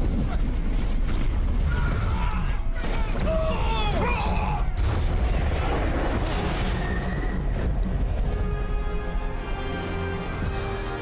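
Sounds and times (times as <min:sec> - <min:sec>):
deep continuous rumble: 0:00.0 - 0:09.5.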